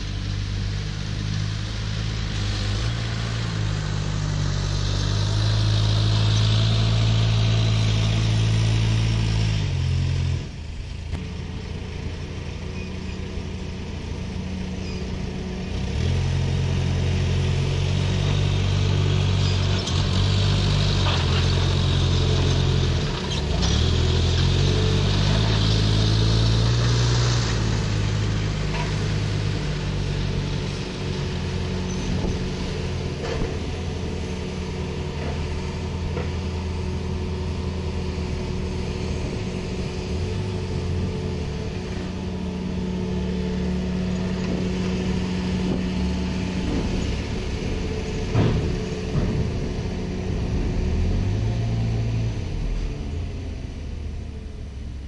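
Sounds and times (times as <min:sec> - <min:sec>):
heavy vehicle engine revving: 0:00.0 - 0:55.0.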